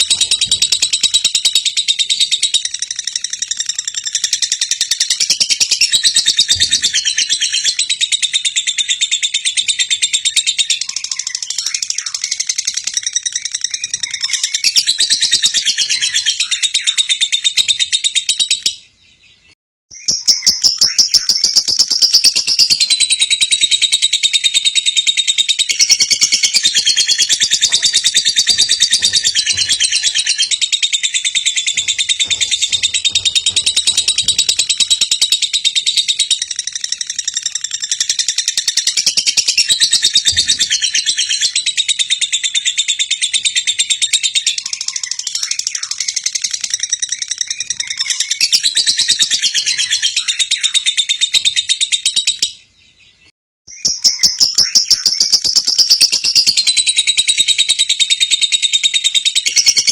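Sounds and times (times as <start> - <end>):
lovebird chirps and trills: 0.0 - 59.9.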